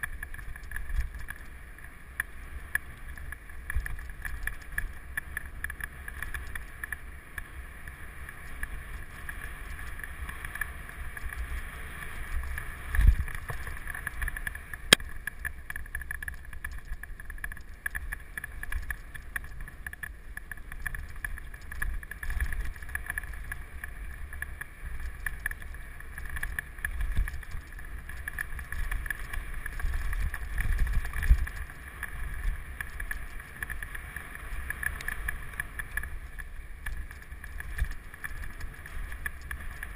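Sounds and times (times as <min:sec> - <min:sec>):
bike tyres rumbling and rattling: 0:00.0 - 0:39.9.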